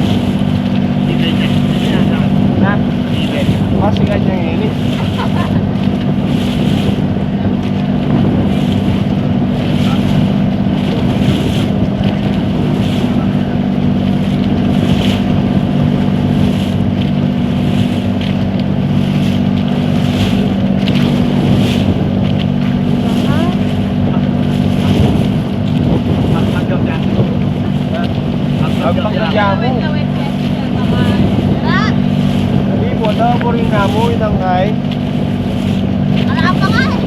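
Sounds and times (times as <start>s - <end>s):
motorboat engine droning: 0.0s - 37.0s
rushing wind and water: 0.0s - 37.0s
water splashing against hull: 0.0s - 37.0s.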